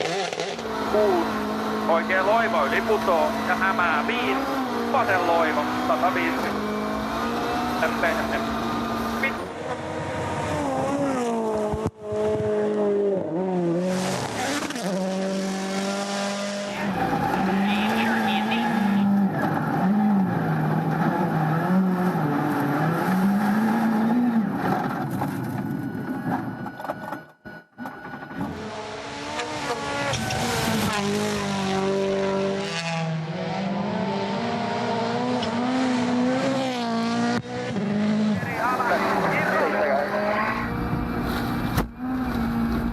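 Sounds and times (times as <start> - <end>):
rally car engine revving: 0.0 - 26.8, 28.3 - 42.9.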